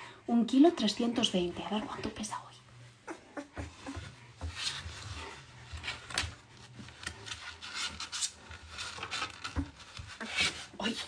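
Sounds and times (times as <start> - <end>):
puppy rustling and scratching: 0.3 - 11.0.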